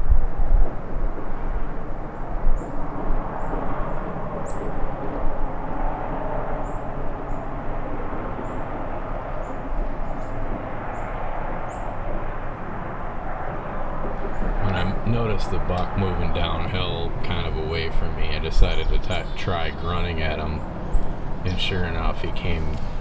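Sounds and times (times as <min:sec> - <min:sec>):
rushing outdoor noise: 0:00.0 - 0:23.0.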